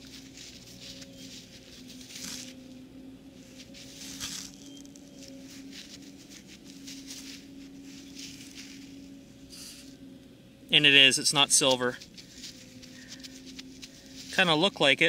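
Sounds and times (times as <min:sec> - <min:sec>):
gritty soil rustles: 0:00.0 - 0:09.8, 0:11.3 - 0:15.0
faint steady hum: 0:00.0 - 0:15.0.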